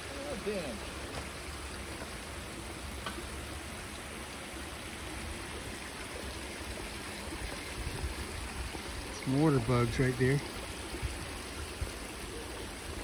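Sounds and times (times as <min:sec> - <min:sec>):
water rushing over dam: 0:00.0 - 0:13.0.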